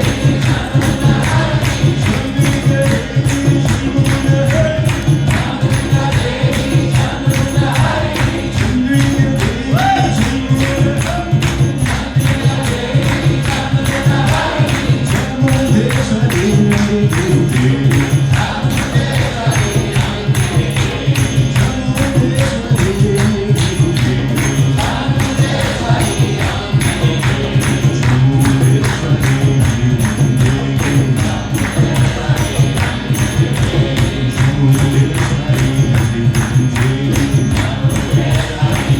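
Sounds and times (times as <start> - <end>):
jingling hand percussion: 0.0 - 38.9
voices chanting: 0.0 - 38.9.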